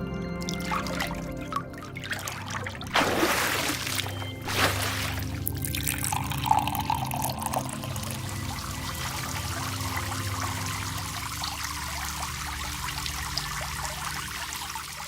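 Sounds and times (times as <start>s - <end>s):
water pouring and splashing: 0.5s - 15.0s.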